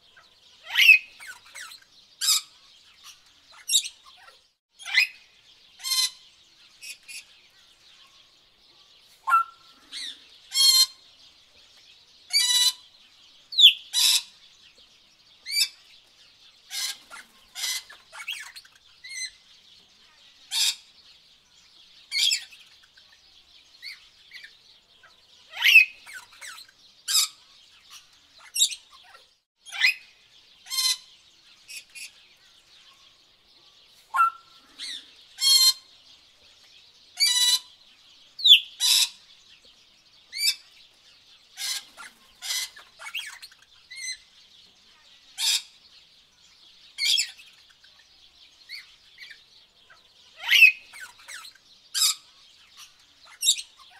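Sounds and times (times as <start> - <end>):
birds chirping and trilling: 0.0 - 53.9.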